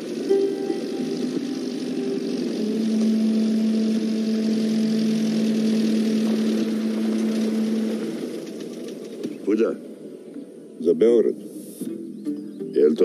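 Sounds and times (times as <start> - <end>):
old car engine idling: 0.0 - 10.4.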